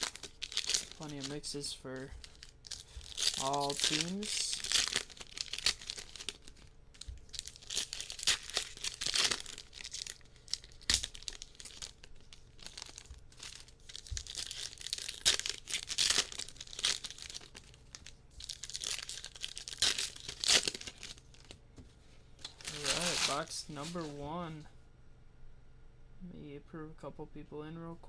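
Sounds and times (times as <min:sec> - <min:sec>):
card packaging tearing and crinkling: 0:00.0 - 0:21.6, 0:22.4 - 0:24.3.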